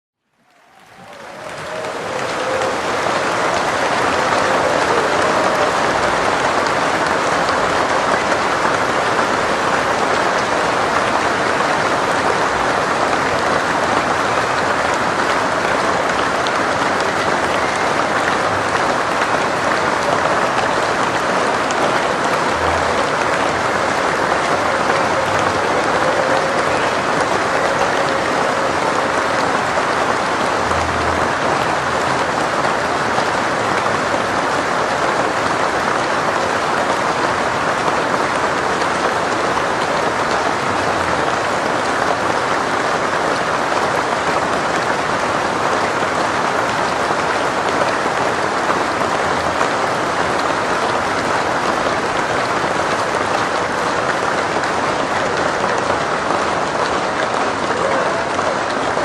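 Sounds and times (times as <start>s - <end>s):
audience applauding: 0.3s - 59.0s.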